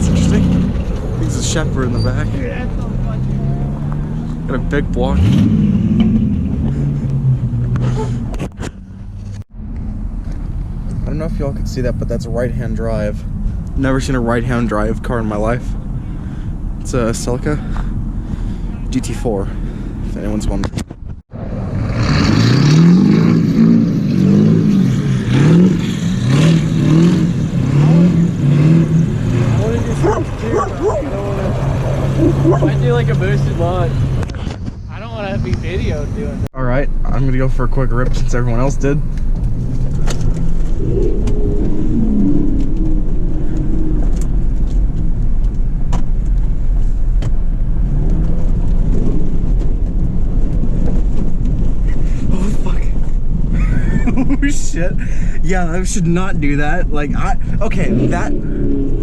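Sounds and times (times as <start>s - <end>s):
car engine revving: 0.0s - 20.1s, 21.3s - 59.0s
steady low rumble: 0.0s - 21.9s, 26.7s - 59.0s.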